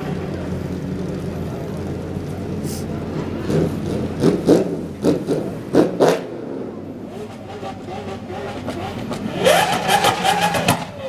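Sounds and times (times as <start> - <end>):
sports car engines revving: 0.0 - 11.0.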